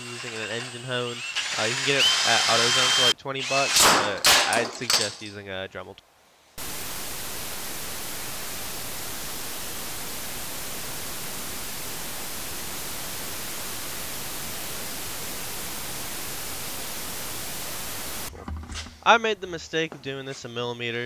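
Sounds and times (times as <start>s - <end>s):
steady static hiss: 0.0s - 19.8s.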